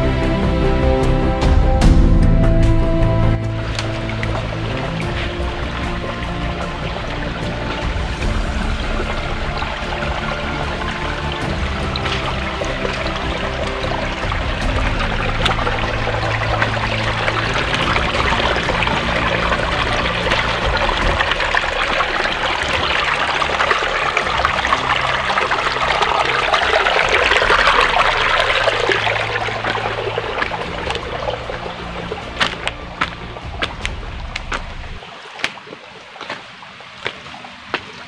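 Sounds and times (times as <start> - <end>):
stream trickling: 0.0 - 38.0.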